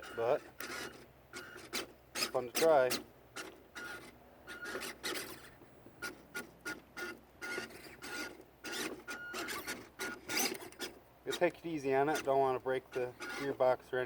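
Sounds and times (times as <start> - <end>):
small electric motor whining: 0.0 - 13.6
scraping and crackling over ground: 0.0 - 14.0.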